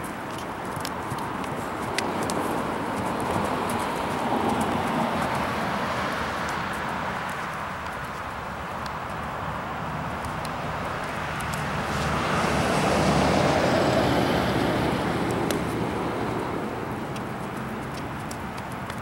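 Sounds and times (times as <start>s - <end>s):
horse hooves on grass: 0.0s - 19.0s
road vehicle passing: 0.0s - 19.0s.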